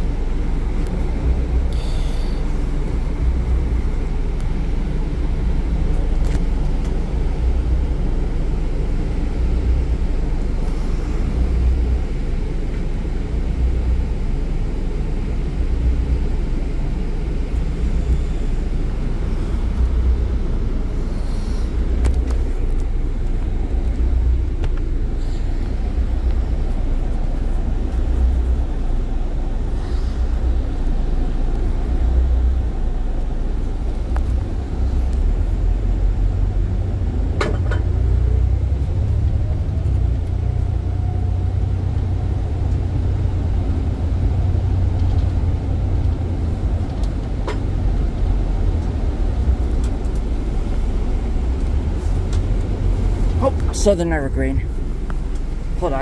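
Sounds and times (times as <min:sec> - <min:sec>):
bus engine rumble and road noise: 0:00.0 - 0:56.0.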